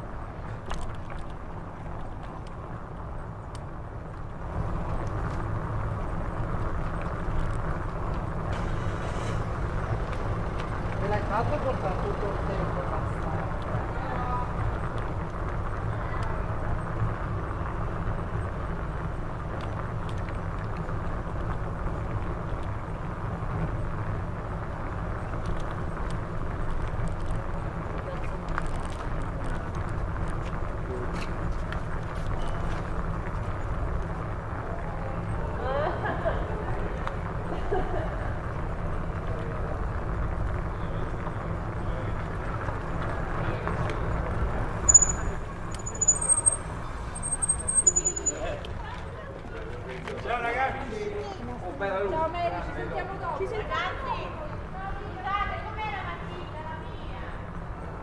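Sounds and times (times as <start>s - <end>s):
bicycle ride rumble: 0.0s - 58.0s
faint street sounds: 0.0s - 58.0s.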